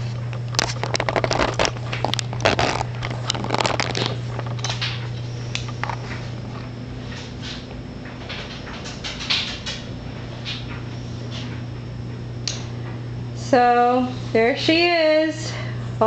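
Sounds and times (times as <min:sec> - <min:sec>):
crunching and crackling clicks: 0:00.0 - 0:13.0
steady low hum: 0:00.0 - 0:16.0.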